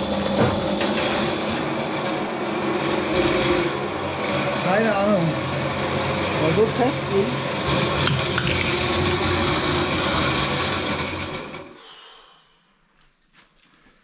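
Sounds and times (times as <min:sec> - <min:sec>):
drain-cleaning machine motor hum: 0:00.0 - 0:11.7.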